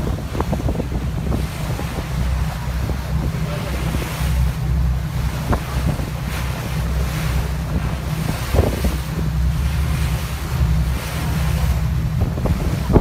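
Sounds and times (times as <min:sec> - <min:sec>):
low engine rumble: 0:00.0 - 0:13.0
water and waves rushing: 0:00.0 - 0:13.0
wind buffeting microphone: 0:00.0 - 0:13.0.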